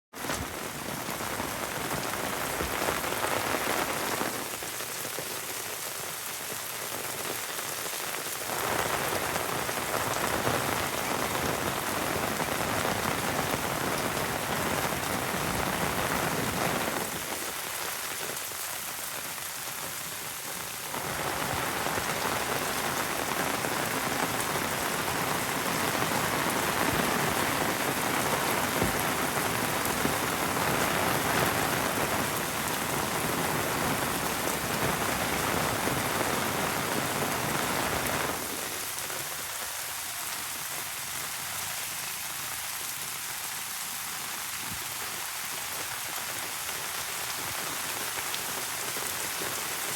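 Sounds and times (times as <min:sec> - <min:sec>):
heavy rain falling: 0:00.1 - 0:49.9.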